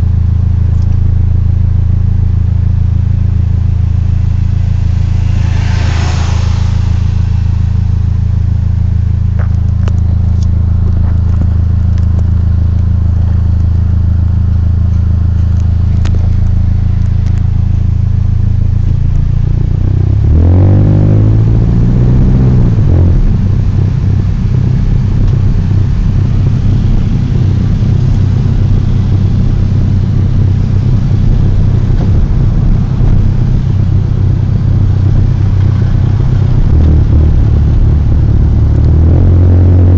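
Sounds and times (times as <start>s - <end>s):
car engine idling and revving: 0.0s - 39.9s
strange noise from engine bay: 2.1s - 19.1s, 23.2s - 38.8s.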